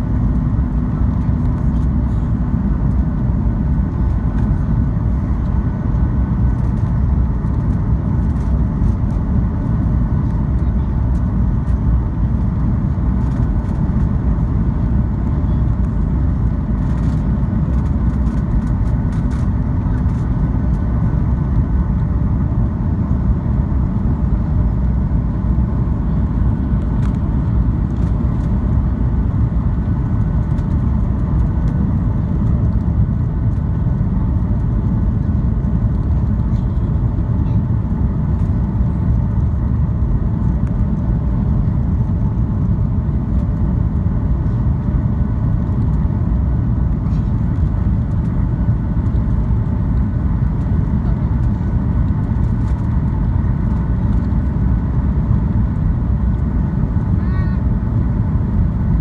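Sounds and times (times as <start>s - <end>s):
aircraft cabin engine rush: 0.0s - 59.0s.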